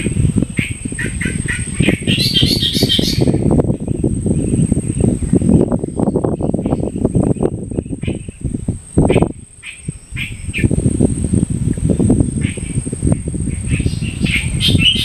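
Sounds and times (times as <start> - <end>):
birds chirping: 0.6 - 15.0.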